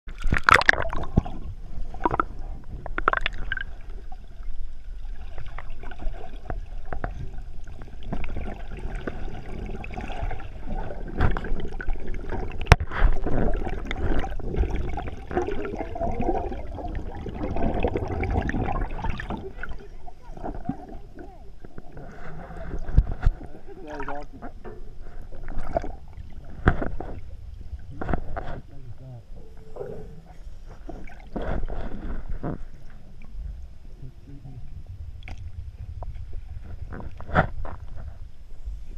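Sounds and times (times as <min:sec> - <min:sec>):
water splashing and sloshing: 0:00.1 - 0:38.9.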